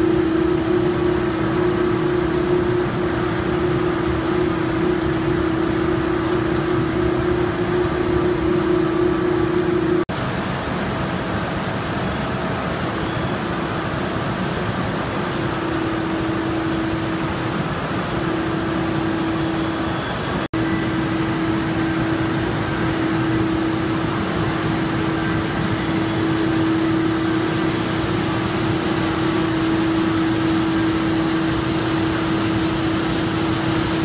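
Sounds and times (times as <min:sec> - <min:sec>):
machine hum: 0:00.0 - 0:34.0
machine rollers running: 0:00.0 - 0:34.0.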